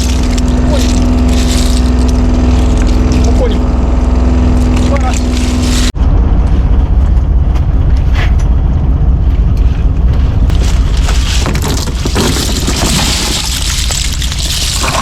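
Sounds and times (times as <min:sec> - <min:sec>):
water noise: 0:00.0 - 0:07.4, 0:10.0 - 0:15.0
boat engine rumbling: 0:00.0 - 0:15.0
wind: 0:00.0 - 0:15.0.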